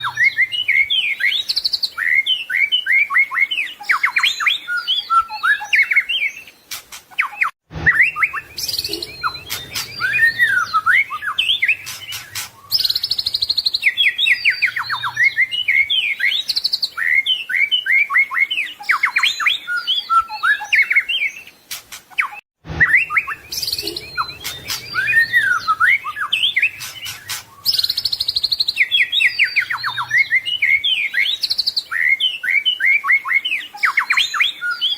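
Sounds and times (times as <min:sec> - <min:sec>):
bird singing whistles and chirps: 0:00.0 - 0:34.9.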